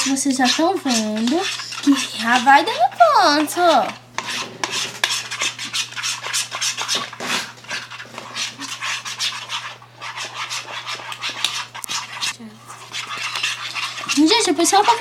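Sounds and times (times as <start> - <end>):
spoon stirring sticky slime: 0.0 - 15.0.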